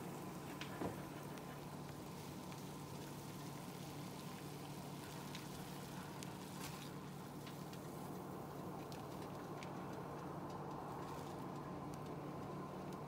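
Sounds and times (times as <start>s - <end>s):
low steady hum: 0.0s - 13.0s
water boiling with bubbling hiss: 0.0s - 13.0s.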